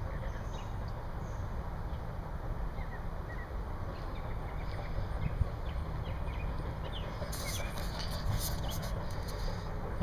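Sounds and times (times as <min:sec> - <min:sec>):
small birds chirping: 0:00.0 - 0:02.1, 0:02.7 - 0:09.0
steady low rumble: 0:00.0 - 0:10.0.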